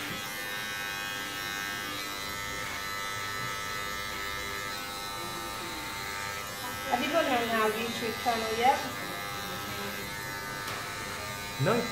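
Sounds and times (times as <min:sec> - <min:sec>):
electric hair clippers buzzing: 0:00.0 - 0:11.9.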